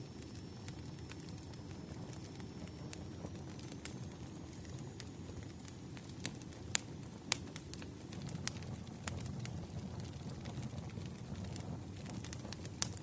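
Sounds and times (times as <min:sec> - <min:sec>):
rumble of burning logs: 0:00.0 - 0:13.0
wood fire popping and snapping: 0:00.0 - 0:13.0.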